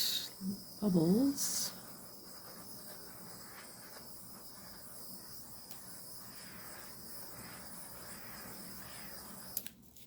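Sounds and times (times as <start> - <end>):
faint high-pitched hiss: 0.0 - 9.8.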